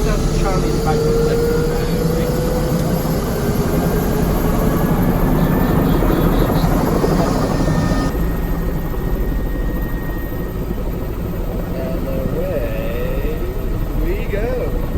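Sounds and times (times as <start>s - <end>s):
helicopter engine and rotor: 0.0s - 14.9s.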